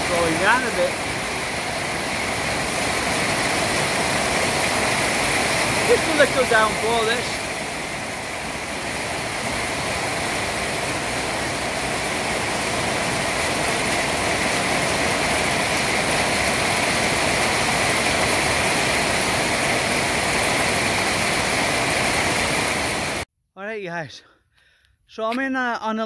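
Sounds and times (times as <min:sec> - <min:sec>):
heavy rain on metal roof: 0:00.0 - 0:23.3.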